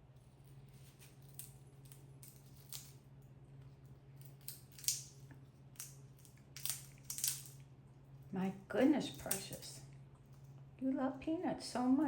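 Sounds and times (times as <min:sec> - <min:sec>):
parrot cracking peanut shells: 0:00.0 - 0:08.2, 0:09.0 - 0:10.7
steady low hum: 0:00.0 - 0:12.0.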